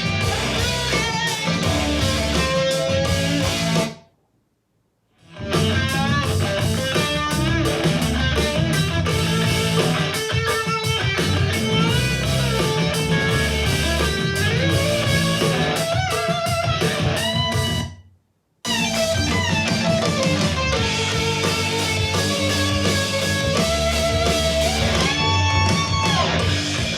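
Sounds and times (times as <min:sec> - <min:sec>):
rock music through speaker: 0:00.0 - 0:04.0, 0:05.2 - 0:18.0, 0:18.7 - 0:26.9.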